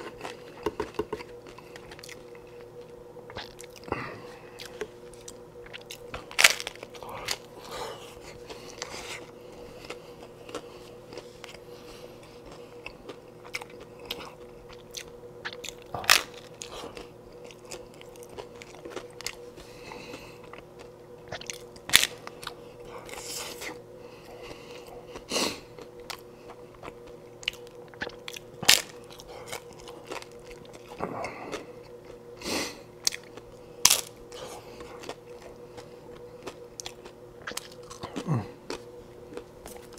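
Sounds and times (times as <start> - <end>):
taco shells crunching: 0.0 - 32.2, 33.0 - 39.9
chewing: 0.0 - 39.9
faint steady hum: 0.0 - 39.9.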